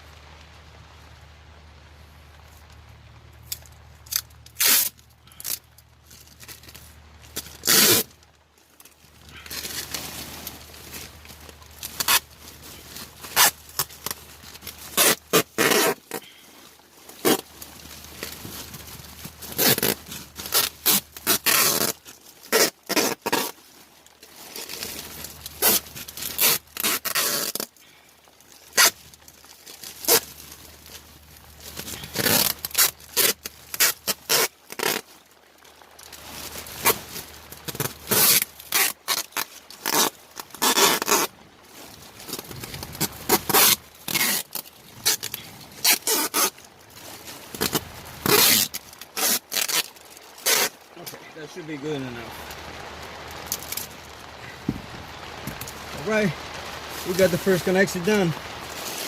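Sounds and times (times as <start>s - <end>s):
duct tape ripping off roll: 3.4s - 59.0s.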